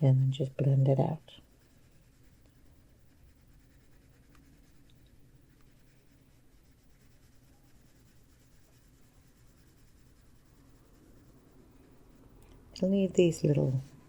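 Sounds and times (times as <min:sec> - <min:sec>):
colored pencil scratching on paper: 0:00.0 - 0:14.0.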